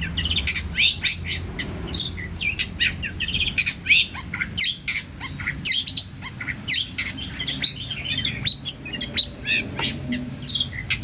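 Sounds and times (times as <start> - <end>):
bird singing chattering: 0.0 - 11.0.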